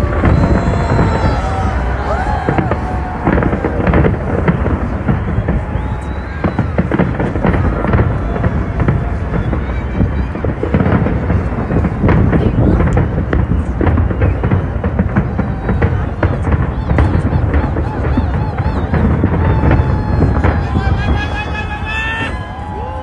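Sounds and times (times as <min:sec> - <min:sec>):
fireworks bangs and crackles: 0:00.0 - 0:23.0
whistling fireworks: 0:00.0 - 0:23.0.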